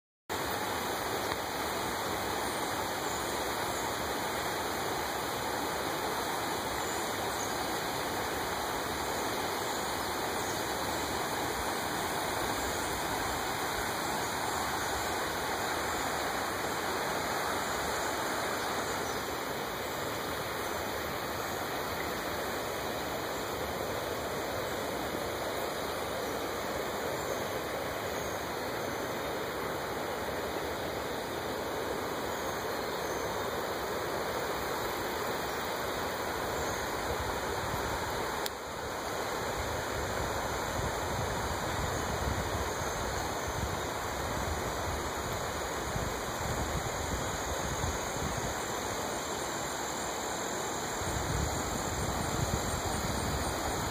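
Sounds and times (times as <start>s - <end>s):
floodwater rushing: 7.2s - 53.9s.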